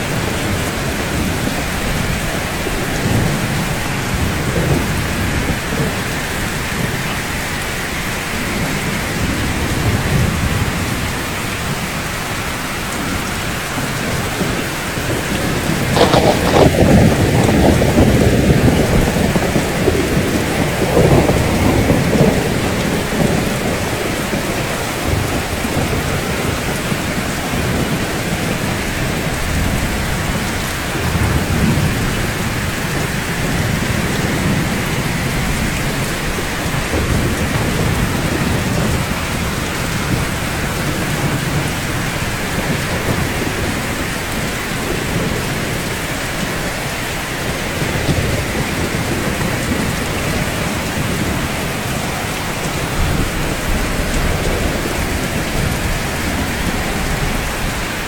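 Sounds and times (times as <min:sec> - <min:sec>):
rain falling: 0:00.0 - 0:58.0
thunder rumbling: 0:00.0 - 0:58.0.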